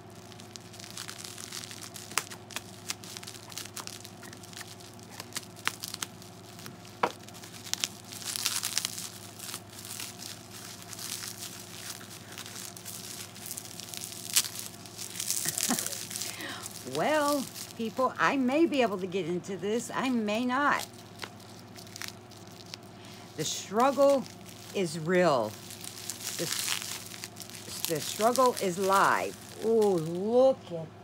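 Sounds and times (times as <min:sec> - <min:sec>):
bubble wrap crackling: 0:00.0 - 0:19.0, 0:19.8 - 0:30.6
plastic rustling and tearing: 0:00.0 - 0:19.0, 0:20.4 - 0:30.5.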